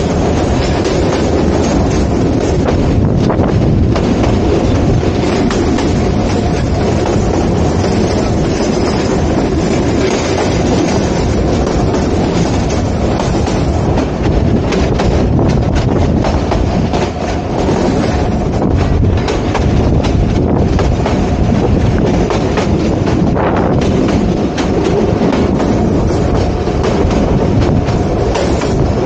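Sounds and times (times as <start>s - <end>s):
train wheels rumbling on track: 0.0s - 29.0s
wheels clicking over rail joints: 0.0s - 29.0s.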